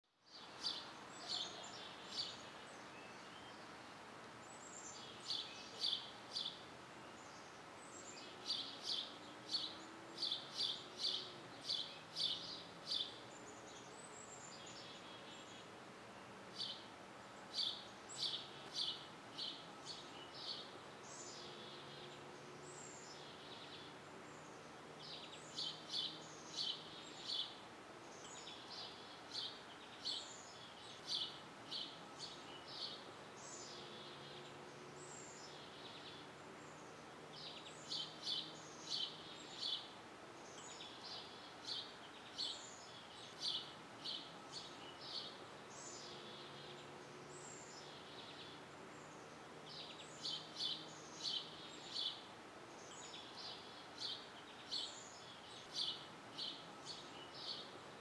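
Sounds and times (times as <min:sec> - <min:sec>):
faint steady hiss: 0:00.0 - 0:58.0
birds chirping: 0:00.3 - 0:58.0.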